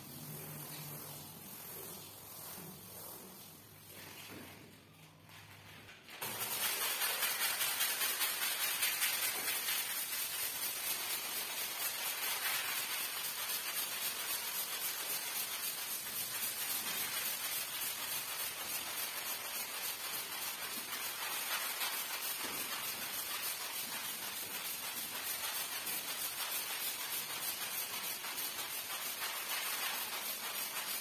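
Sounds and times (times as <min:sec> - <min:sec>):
broom scrubbing wet rug: 0:00.0 - 0:04.6, 0:06.2 - 0:31.0.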